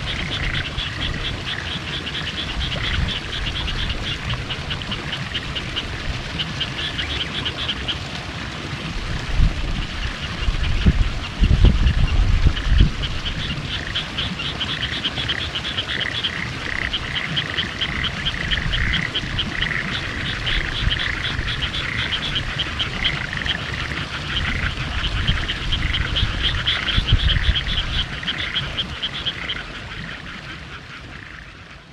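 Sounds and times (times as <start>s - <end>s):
frogs trilling: 0.0s - 8.1s, 9.6s - 31.9s.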